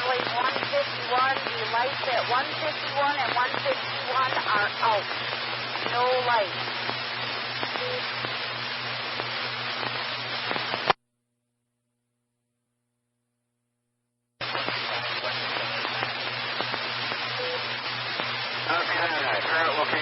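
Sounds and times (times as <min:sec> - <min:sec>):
radio static hiss and hum: 0:00.0 - 0:11.0, 0:14.4 - 0:20.0.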